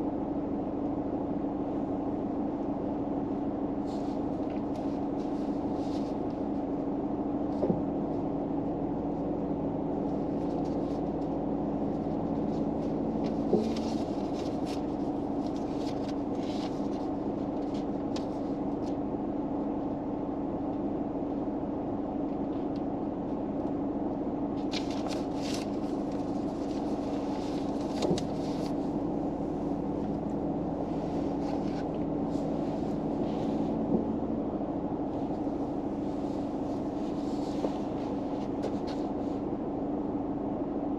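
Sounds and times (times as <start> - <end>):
low hum in car cabin: 0.0 - 40.9.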